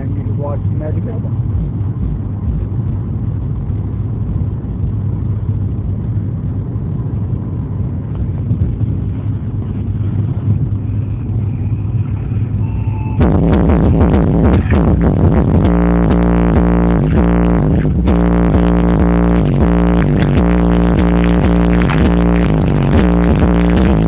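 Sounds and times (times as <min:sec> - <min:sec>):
car cabin road rumble: 0:00.0 - 0:24.0
electronic music from car stereo: 0:00.0 - 0:24.0.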